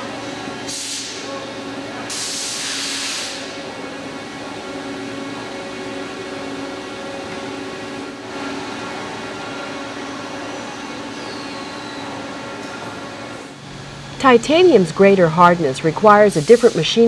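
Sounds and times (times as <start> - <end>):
droning hum: 3.3 - 17.0.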